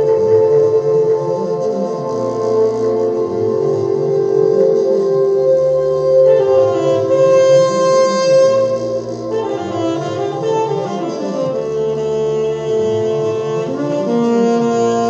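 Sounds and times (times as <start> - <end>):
electric bassoon: 0.0 - 15.0
orchestra playing slow notes: 0.0 - 15.0.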